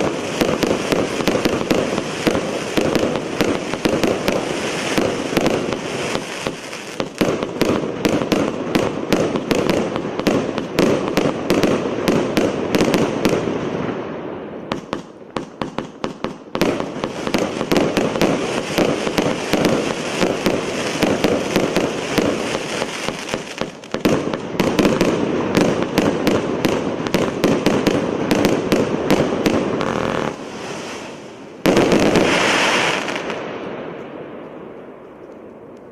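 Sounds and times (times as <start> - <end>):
fireworks firing rapid volleys: 0.0 - 14.0, 14.6 - 33.8.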